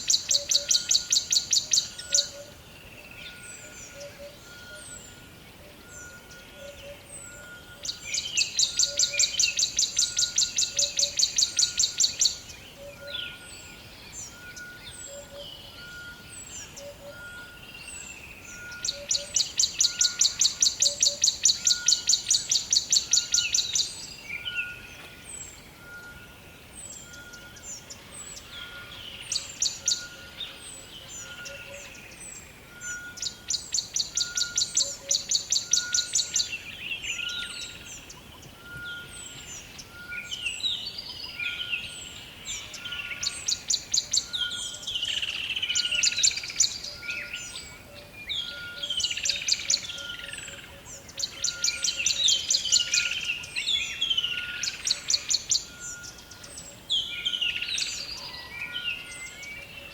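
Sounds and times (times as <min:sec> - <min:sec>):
birds rattling trills: 0:00.0 - 0:59.9.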